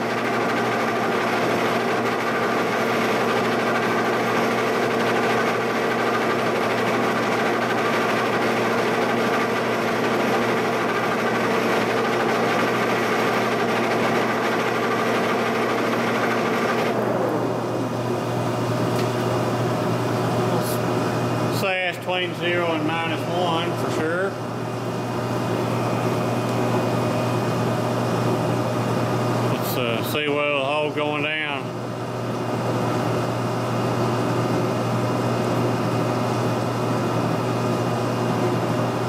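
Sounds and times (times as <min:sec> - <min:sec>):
milling machine humming: 0:00.0 - 0:39.0.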